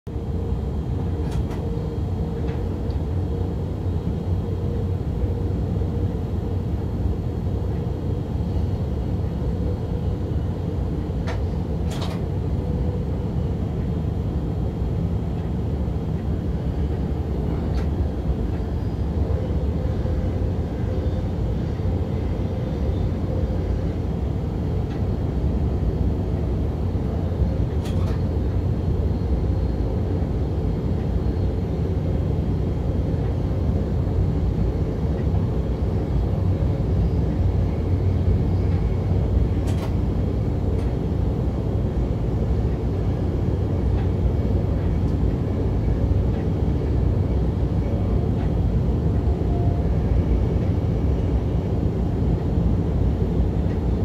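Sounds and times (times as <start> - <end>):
train rumbling inside cab: 0.1 - 54.0.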